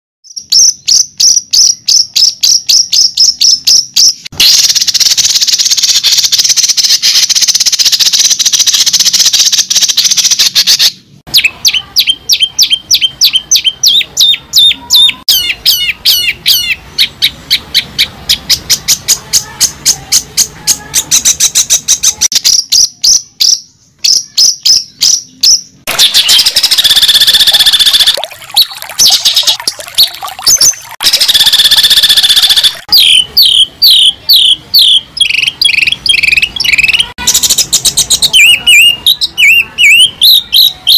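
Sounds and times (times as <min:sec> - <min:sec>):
bird singing: 0:00.3 - 0:40.9.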